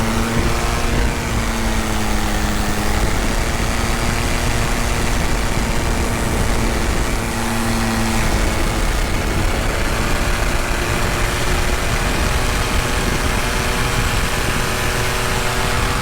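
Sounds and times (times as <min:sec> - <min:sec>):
paramotor engine drone: 0:00.0 - 0:16.0.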